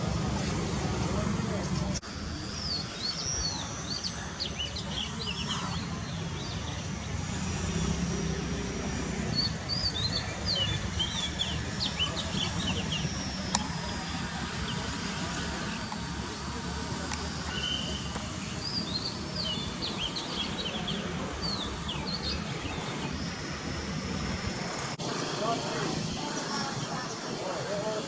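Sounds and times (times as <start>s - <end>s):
small birds chirping: 1.1s - 25.0s.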